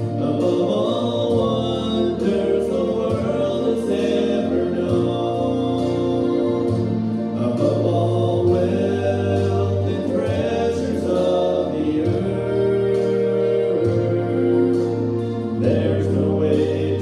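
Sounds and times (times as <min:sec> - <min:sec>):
man singing a worship song: 0:00.0 - 0:17.0
sustained accompaniment chords: 0:00.0 - 0:17.0.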